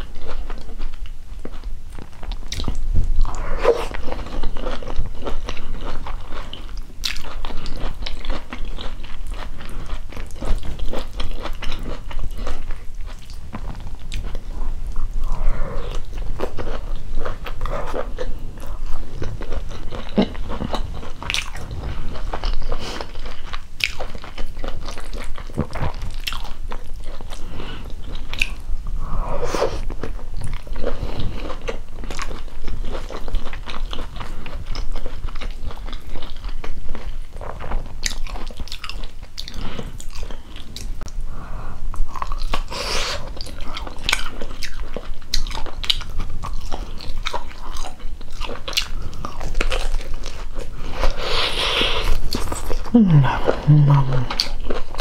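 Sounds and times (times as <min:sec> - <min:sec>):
chewing food: 0:00.0 - 0:41.2, 0:41.9 - 0:55.0.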